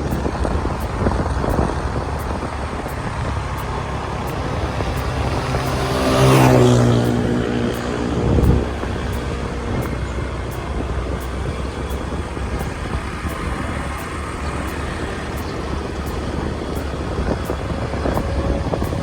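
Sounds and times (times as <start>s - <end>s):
motorbike engine rumble: 0.0s - 19.0s
rushing air: 0.0s - 19.0s.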